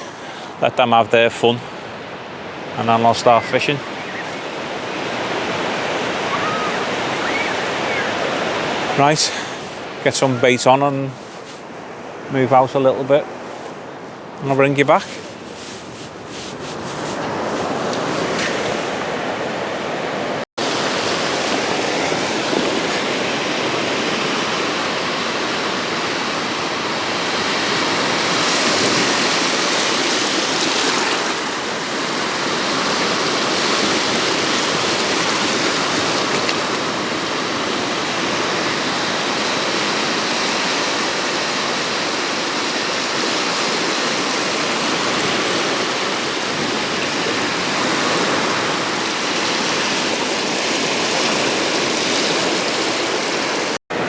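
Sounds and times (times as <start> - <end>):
sea surf washing ashore: 0.0 - 54.0.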